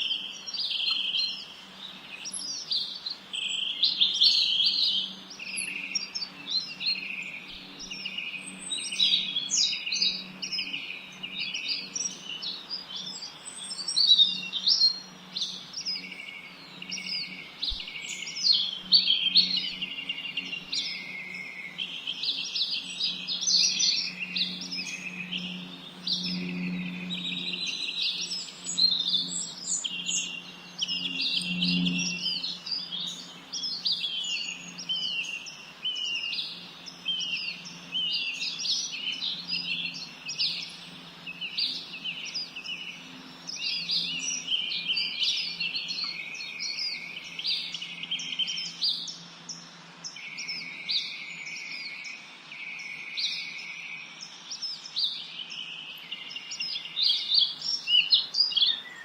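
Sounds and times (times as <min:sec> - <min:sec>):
steady low hum: 0:00.0 - 0:57.8
songbirds chirping and twittering: 0:00.0 - 0:59.0.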